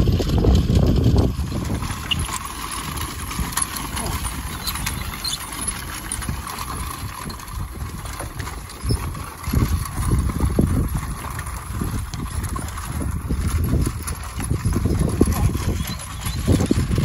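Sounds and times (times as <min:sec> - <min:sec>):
horse hooves thudding: 0:00.0 - 0:17.0
iron wheels rattling: 0:00.0 - 0:17.0.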